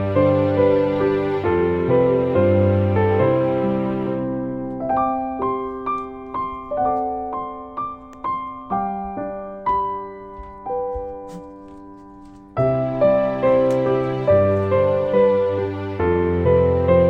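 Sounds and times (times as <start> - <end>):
soft piano melody: 0.0 - 17.0.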